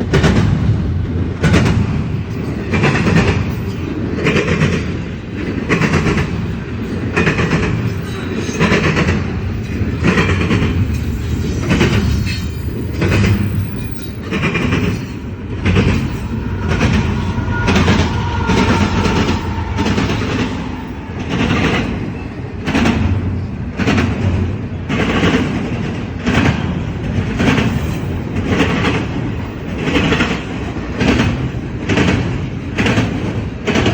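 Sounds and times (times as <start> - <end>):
freight train rumbling: 0.0 - 33.9
wheels clacking over rail joints: 0.0 - 33.9.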